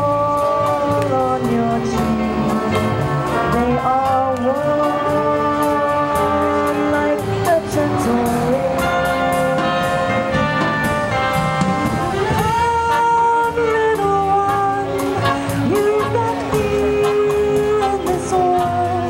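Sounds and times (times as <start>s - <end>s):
jazz big band playing: 0.0s - 19.0s.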